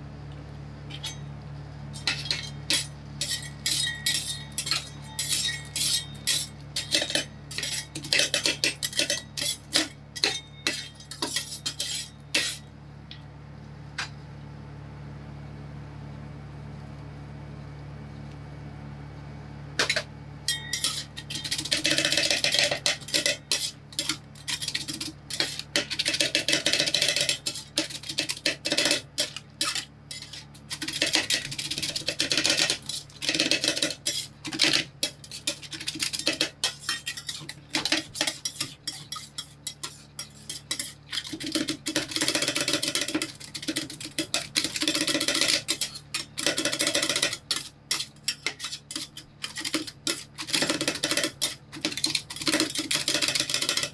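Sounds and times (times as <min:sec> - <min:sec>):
metal spatulas chopping on steel: 0:01.9 - 0:12.6, 0:19.8 - 0:53.9.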